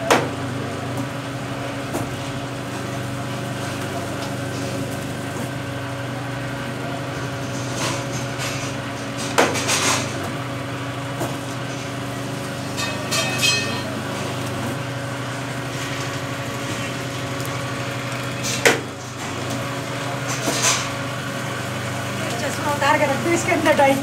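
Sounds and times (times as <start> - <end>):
machine motor hum: 0.0 - 24.0.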